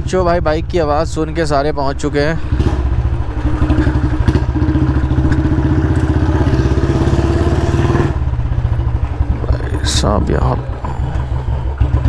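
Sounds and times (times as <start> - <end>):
single-cylinder motorcycle engine: 0.0 - 12.0.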